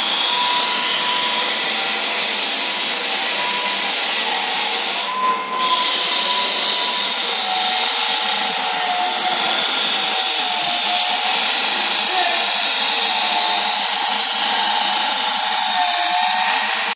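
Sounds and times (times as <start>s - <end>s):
floor sanding machine running: 0.0s - 16.9s.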